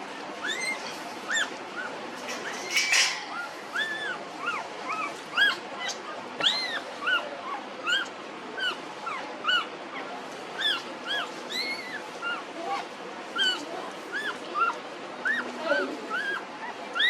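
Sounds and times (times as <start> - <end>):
puppies squeaking and whimpering: 0.0 - 17.0.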